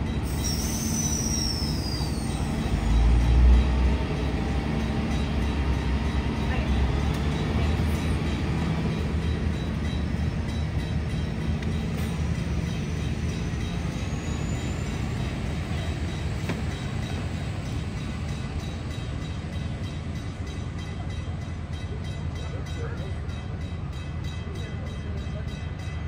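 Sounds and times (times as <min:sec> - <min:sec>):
diesel railcar engine rumble: 0:00.0 - 0:26.0.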